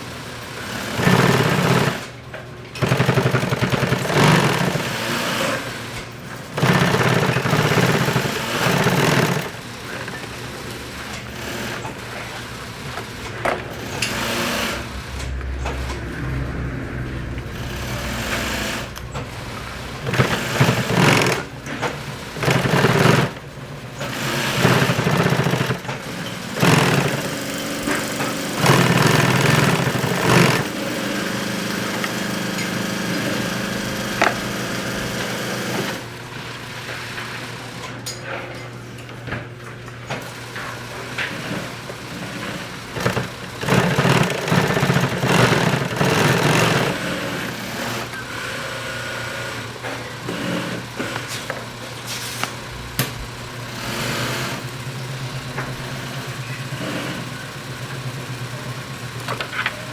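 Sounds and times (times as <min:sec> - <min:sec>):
sewing machine stitching: 0:00.0 - 0:16.1, 0:17.5 - 0:37.8, 0:40.1 - 0:51.7, 0:53.6 - 0:59.9.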